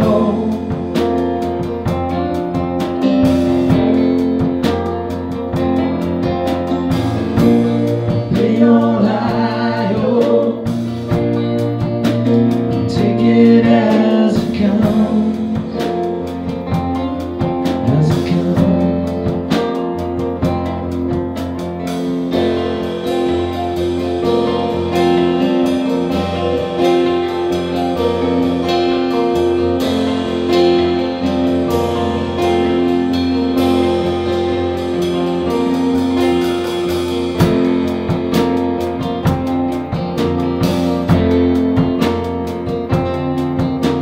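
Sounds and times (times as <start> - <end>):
acoustic blues band playing: 0.0 - 44.0
held melodic notes: 0.0 - 44.0
strummed accents: 0.0 - 44.0.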